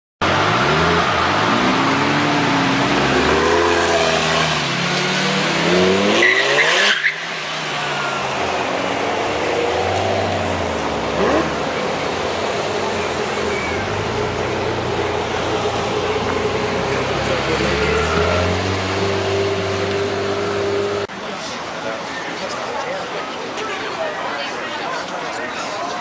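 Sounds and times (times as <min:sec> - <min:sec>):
sports car engines revving: 0:00.2 - 0:21.1.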